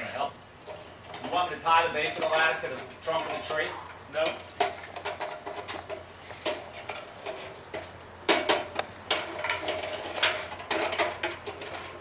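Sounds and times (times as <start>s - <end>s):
aluminum ladder clanking: 0.0s - 12.0s.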